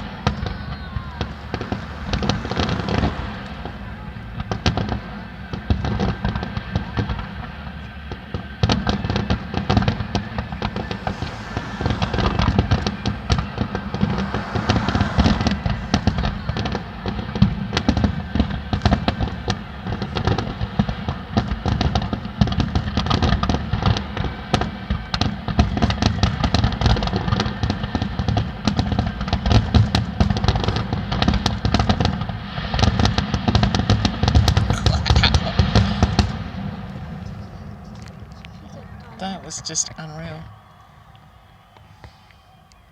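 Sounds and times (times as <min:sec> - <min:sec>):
fireworks bangs and crackles: 0:00.0 - 0:42.6.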